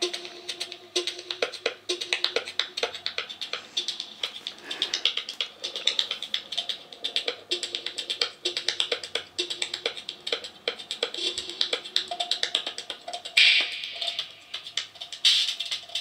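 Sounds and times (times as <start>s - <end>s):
thin music from small loudspeaker: 0.0s - 16.0s.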